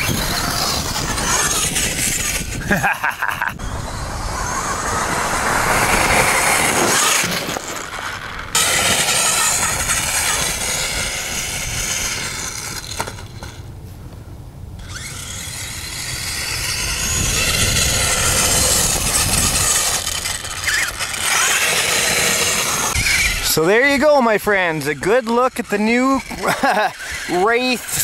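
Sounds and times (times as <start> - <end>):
electric motor whining: 0.0 - 13.7, 14.8 - 28.0.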